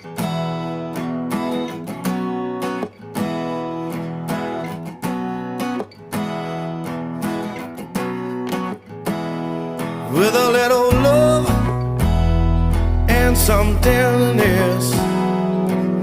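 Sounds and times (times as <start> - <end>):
strummed acoustic guitar chords: 0.0 - 16.0.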